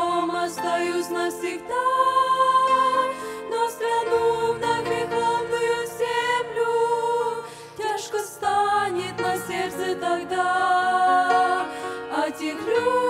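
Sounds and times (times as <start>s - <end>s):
women singing in harmony: 0.0s - 13.0s.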